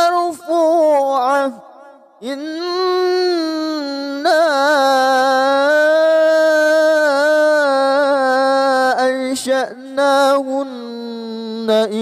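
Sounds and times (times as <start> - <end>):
man chanting melodic recitation: 0.0 - 12.0.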